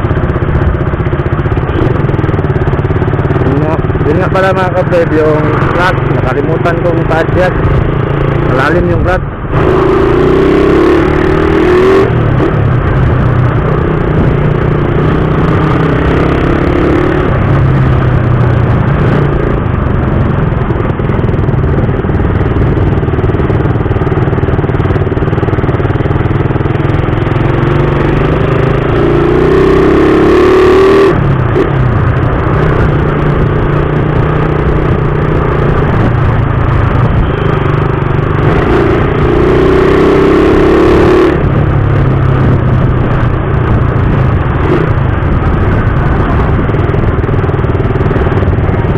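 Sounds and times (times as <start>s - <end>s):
motorcycle engine running: 0.0s - 48.9s
road noise: 0.0s - 48.9s.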